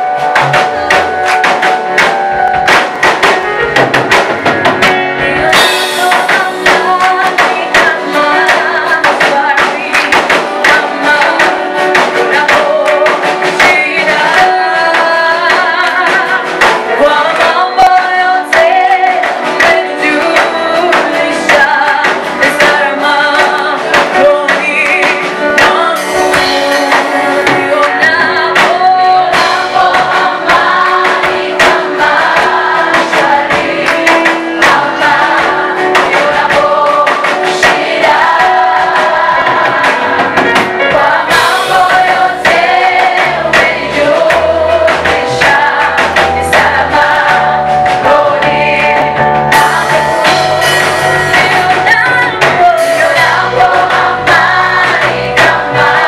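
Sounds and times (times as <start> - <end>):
instrumental backing with beat: 0.0 - 56.0
group singing gospel: 4.8 - 56.0.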